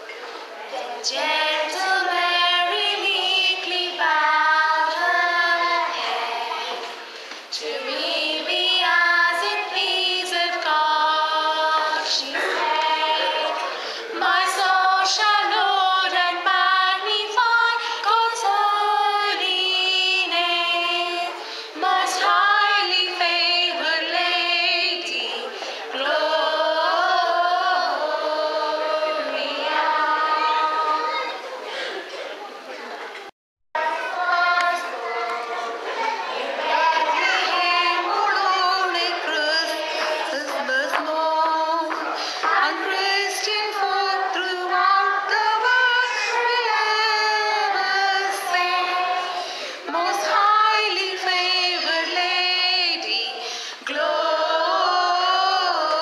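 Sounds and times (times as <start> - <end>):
girls singing together: 0.0 - 32.4, 33.8 - 56.0.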